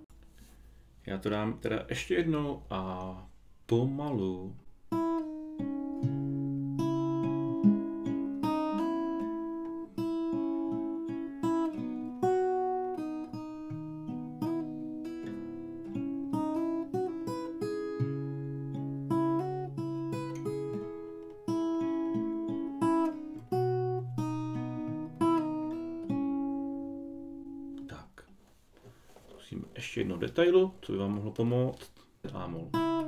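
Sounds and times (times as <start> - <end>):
fingerpicked acoustic guitar: 2.7 - 33.0.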